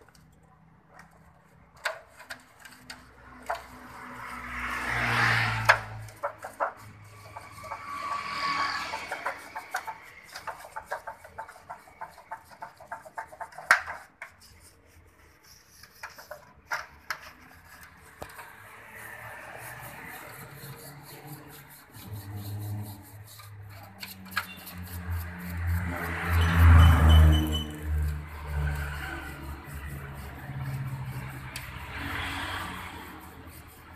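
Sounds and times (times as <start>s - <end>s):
bristle brush scrubbing metal: 1.0s - 33.9s.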